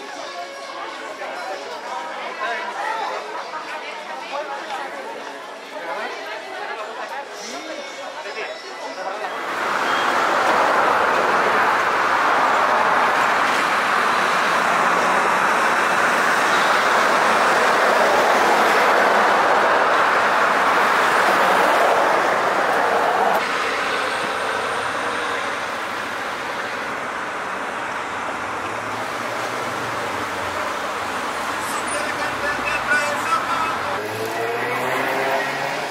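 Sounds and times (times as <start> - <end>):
city street traffic: 0.0 - 35.9.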